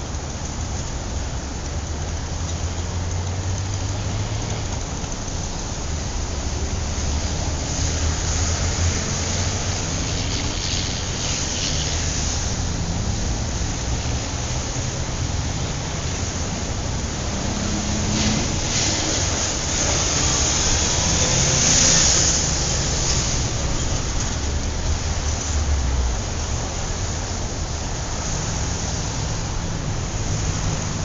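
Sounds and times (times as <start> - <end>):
low rumble of engines: 0.0 - 31.0
tyres hissing as vehicles pass: 0.0 - 31.0.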